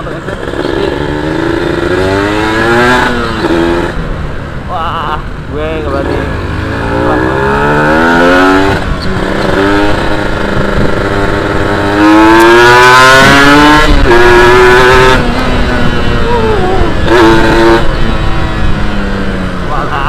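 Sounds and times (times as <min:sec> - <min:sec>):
motorcycle engine accelerating: 0:00.0 - 0:04.4, 0:05.8 - 0:20.0.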